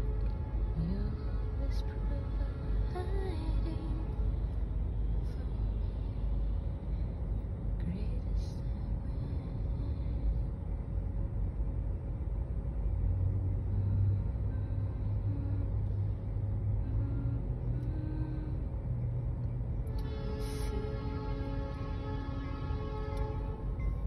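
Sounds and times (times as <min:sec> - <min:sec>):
vehicle rumble inside car: 0:00.0 - 0:24.0.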